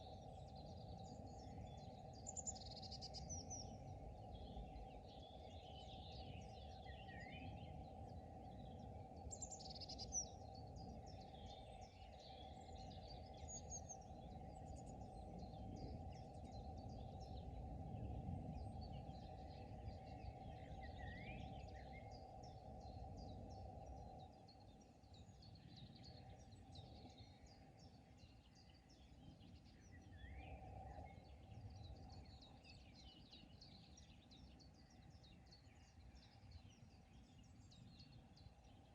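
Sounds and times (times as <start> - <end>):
small birds chirping and trilling: 0.0 - 38.9.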